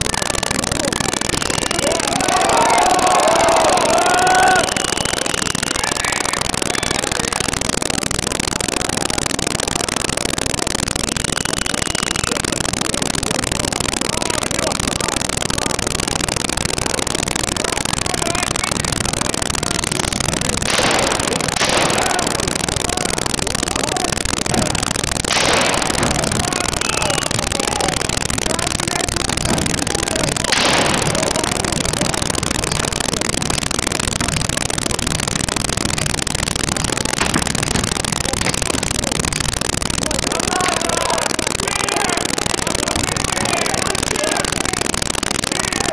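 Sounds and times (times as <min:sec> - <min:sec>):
bright hissing surge: 0:00.0 - 0:45.9
distorted crackling noise: 0:00.0 - 0:45.9.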